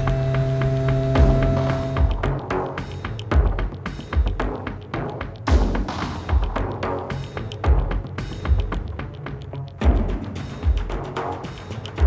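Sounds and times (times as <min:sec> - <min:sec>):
music with heavy drum beat: 0:00.0 - 0:12.0.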